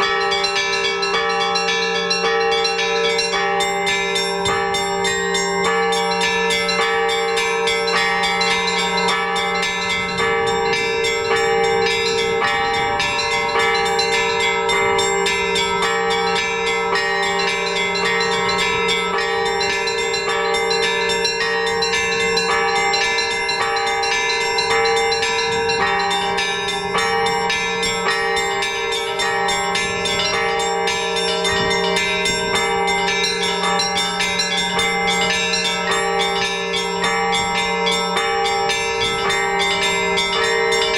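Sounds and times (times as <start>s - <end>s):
hum of large low bells: 0.0s - 40.9s.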